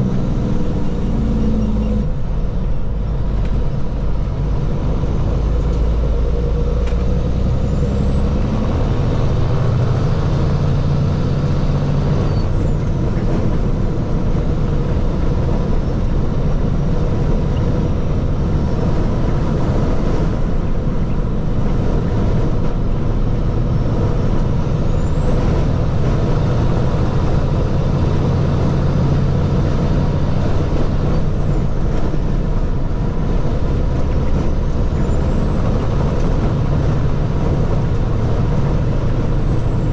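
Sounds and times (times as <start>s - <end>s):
high engine whine: 0.0s - 39.9s
truck diesel engine rumble: 0.0s - 39.9s.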